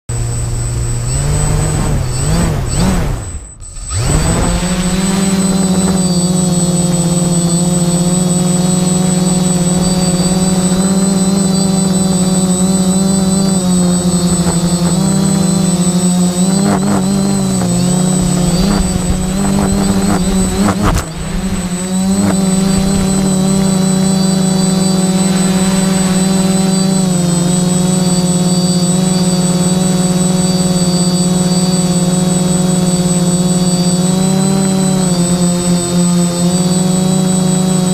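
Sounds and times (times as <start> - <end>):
drone motors and propellers: 0.1 - 37.9.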